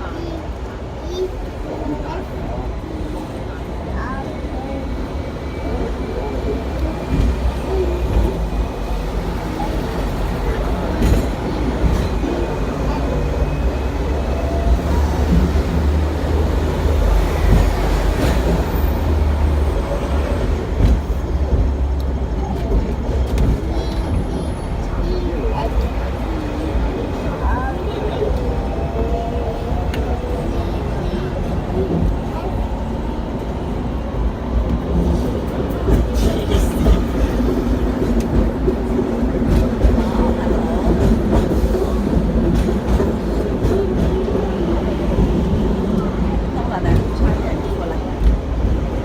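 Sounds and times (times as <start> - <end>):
tram rumbling on rails: 0.0 - 49.0.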